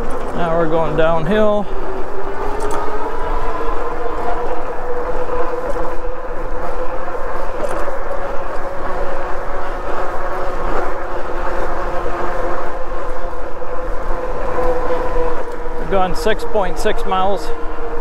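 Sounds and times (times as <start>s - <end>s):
bike tires and drive humming: 0.0s - 18.0s.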